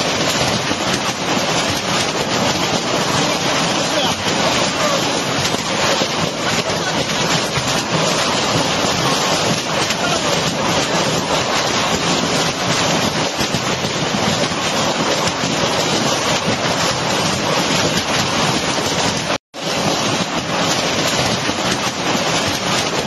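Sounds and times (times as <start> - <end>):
heavy rain on rooftops: 0.0 - 23.0.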